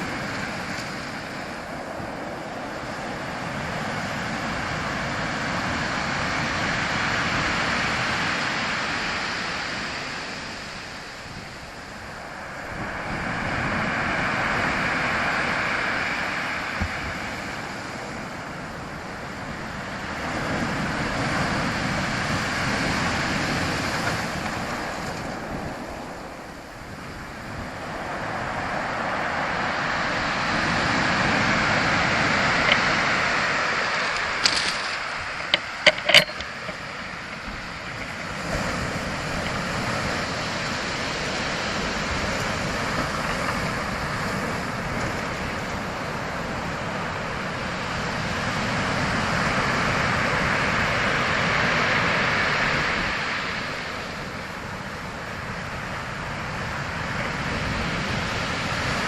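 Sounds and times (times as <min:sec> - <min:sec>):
ocean surf rushing: 0:00.0 - 0:59.0.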